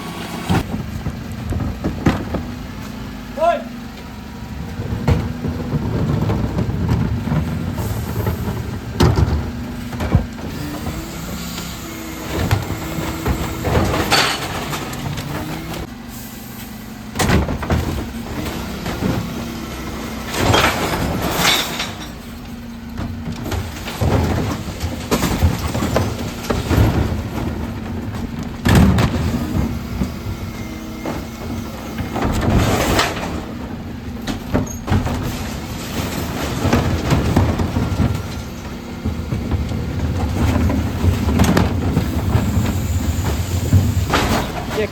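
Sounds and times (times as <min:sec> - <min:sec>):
bin lift knocks and thuds: 0:00.0 - 0:03.1, 0:04.4 - 0:15.9, 0:17.1 - 0:44.9
refuse truck engine running: 0:00.0 - 0:44.9.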